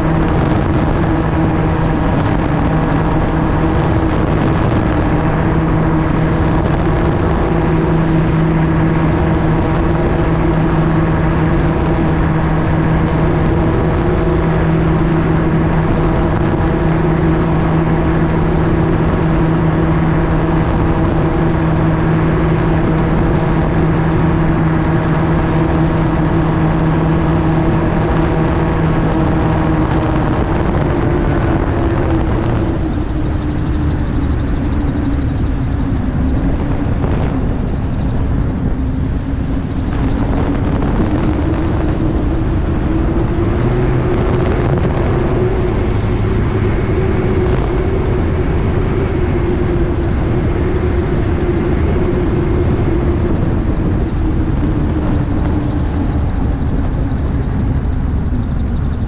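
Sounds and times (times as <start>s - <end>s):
gyroplane engine and propeller: 0.0s - 59.0s
wind rush and rotor noise: 0.0s - 59.0s.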